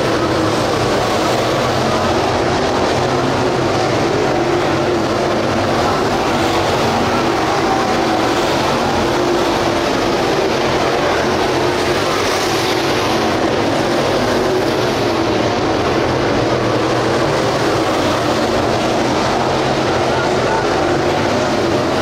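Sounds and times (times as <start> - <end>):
race car engines running hard: 0.0 - 22.0.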